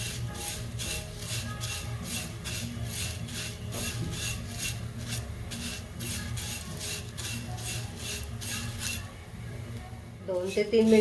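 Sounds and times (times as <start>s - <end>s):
spatula scraping rice flakes: 0.0s - 9.2s, 10.4s - 11.0s.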